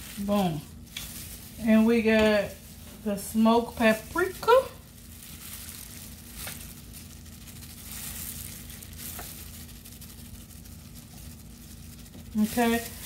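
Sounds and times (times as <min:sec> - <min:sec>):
plastic glove rustling: 0:00.0 - 0:13.0
powder hissing from shaker: 0:00.0 - 0:13.0.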